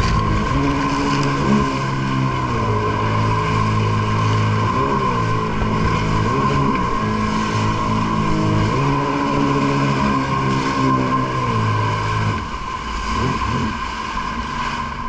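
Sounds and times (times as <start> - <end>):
jet ski engine running: 0.0 - 15.0
steady high whine: 0.0 - 15.0.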